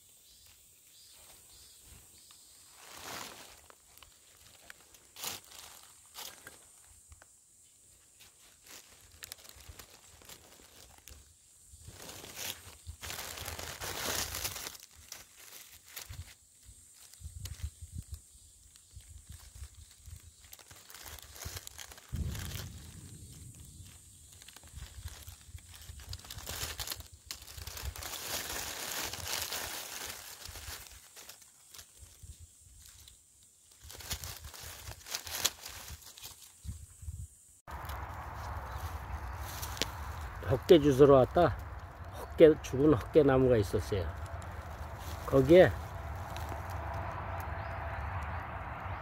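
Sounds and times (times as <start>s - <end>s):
dry leaves crackling and rustling: 0.9s - 36.9s, 37.7s - 49.0s.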